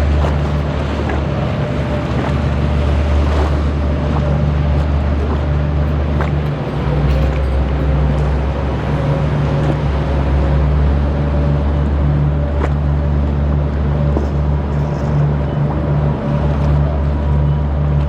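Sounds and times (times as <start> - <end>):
boat engine droning: 0.0 - 18.0
river water wash: 0.0 - 18.0.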